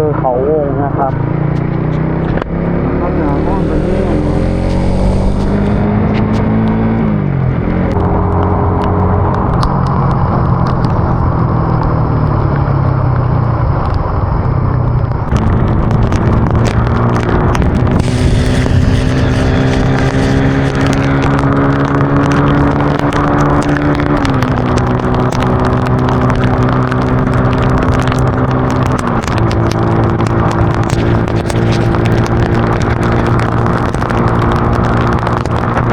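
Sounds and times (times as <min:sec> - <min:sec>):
wind rushing over microphone: 0:00.0 - 0:35.9
motorcycle engine running: 0:00.8 - 0:11.2, 0:14.7 - 0:35.9.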